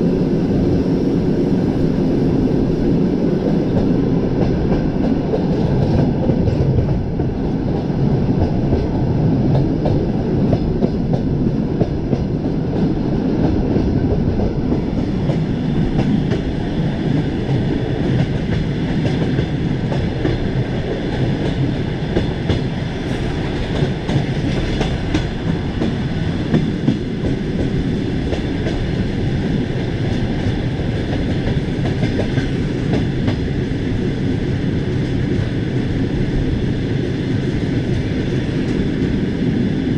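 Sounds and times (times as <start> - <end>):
rumble of wheels on rails: 0.0 - 39.9.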